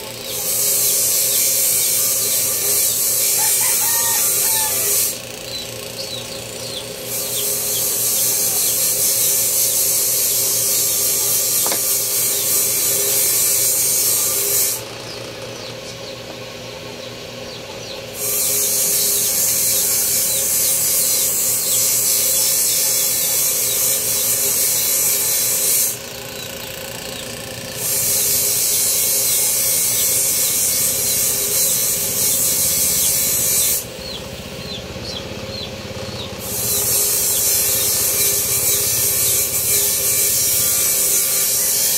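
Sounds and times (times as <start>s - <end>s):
power tool hissing: 0.0s - 15.7s, 18.1s - 41.9s.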